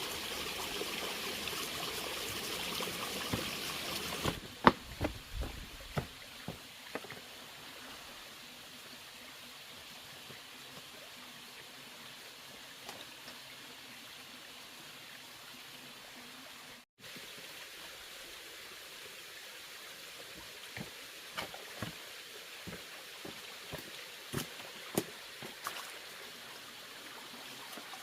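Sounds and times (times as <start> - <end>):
water rushing: 0.0 - 16.2, 17.3 - 28.0.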